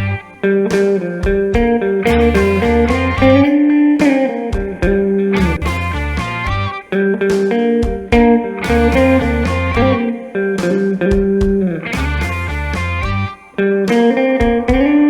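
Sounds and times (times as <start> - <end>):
backing track with bass and beat: 0.0 - 15.0
lead guitar solo: 0.0 - 15.0.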